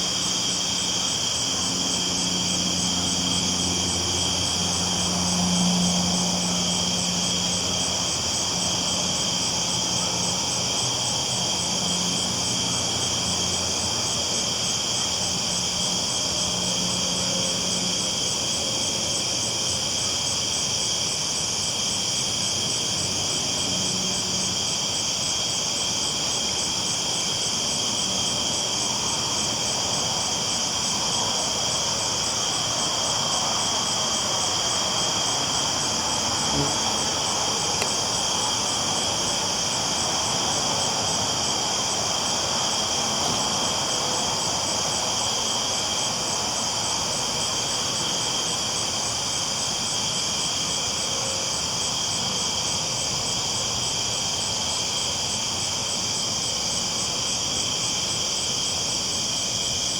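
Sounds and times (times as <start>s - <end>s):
high-pitched hiss and chirring: 0.0s - 59.9s.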